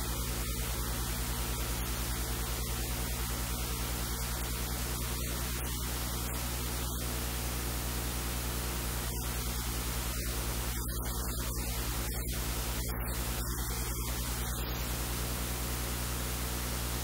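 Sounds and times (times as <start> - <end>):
electrical mains hum: 0.0 - 17.0
static hiss: 0.0 - 17.0.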